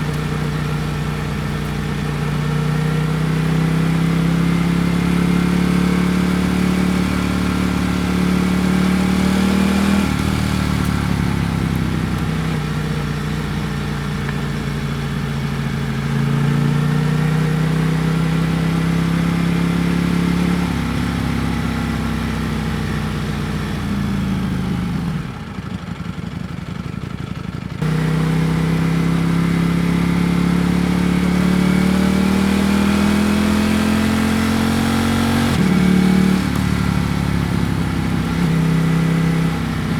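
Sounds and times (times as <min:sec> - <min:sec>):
motorcycle engine revving: 0:00.0 - 0:26.6, 0:27.4 - 0:39.9.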